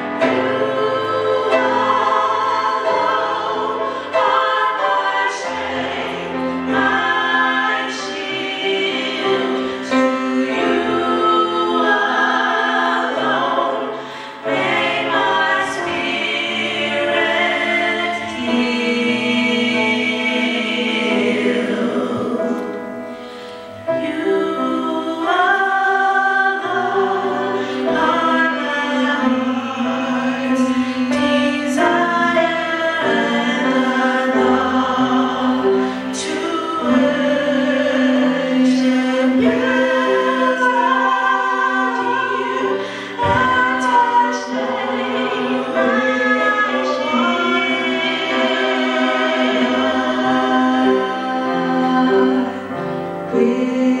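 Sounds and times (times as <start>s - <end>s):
singers singing in harmony: 0.0s - 54.0s.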